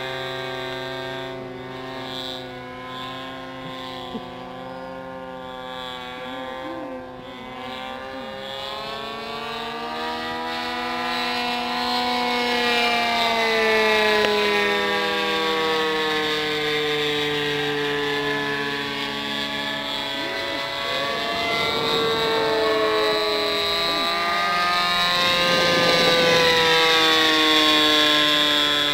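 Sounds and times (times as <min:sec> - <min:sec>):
model plane engine droning: 0:00.0 - 0:28.9.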